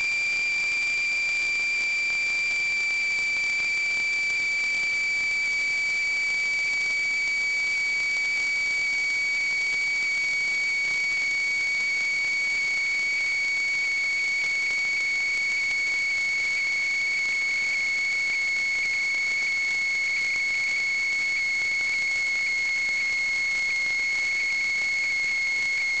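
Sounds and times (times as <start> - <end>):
high-pitched electronic whine: 0.0 - 26.0.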